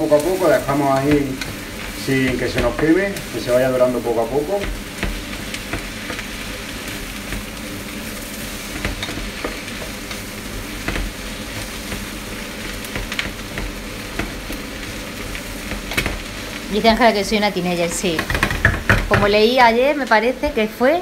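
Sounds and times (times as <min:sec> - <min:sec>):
wooden spatula scraping a pan: 0:00.0 - 0:17.1
onion sizzling in a frying pan: 0:00.0 - 0:21.0.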